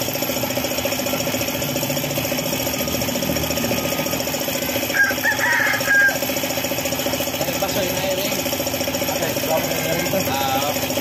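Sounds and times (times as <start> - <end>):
engine running with fast pulse: 0.0 - 11.0.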